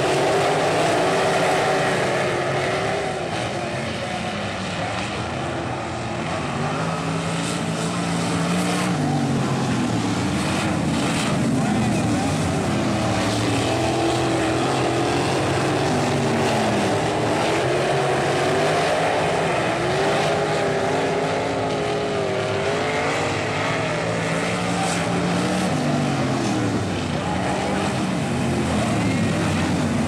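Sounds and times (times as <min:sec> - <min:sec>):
racing car engines: 0:00.0 - 0:30.0.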